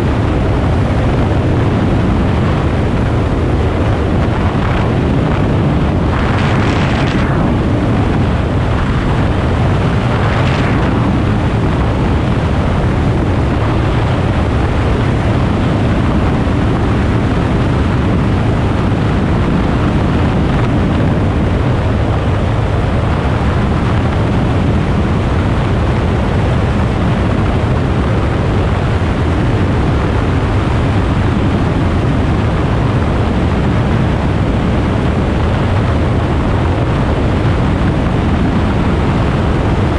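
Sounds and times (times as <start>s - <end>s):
light aircraft engine droning: 0.0s - 39.9s
wind rushing over camera: 0.0s - 39.9s.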